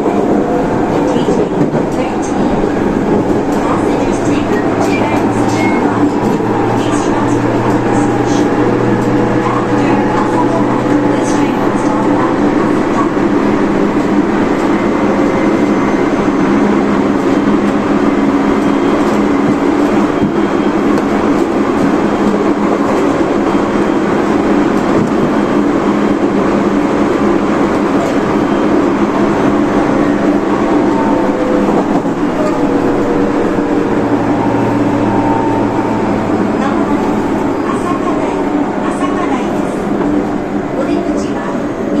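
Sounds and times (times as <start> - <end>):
train rolling rumble: 0.0 - 42.0.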